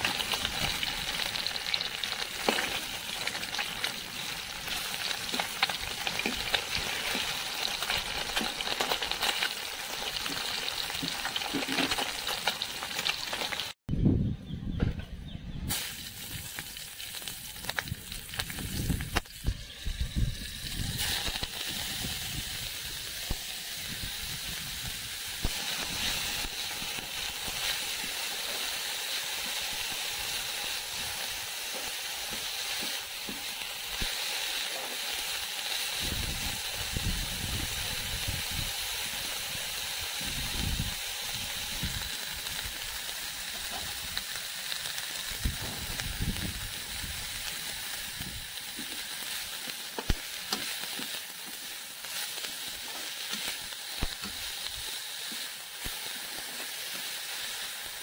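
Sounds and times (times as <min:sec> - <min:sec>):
leaves sizzling in hot oil: 0:00.0 - 0:13.8, 0:15.7 - 0:58.0.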